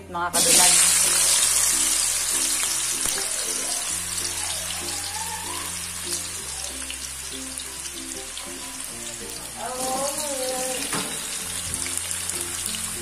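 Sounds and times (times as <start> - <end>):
food deep-frying in hot oil: 0.4 - 13.0.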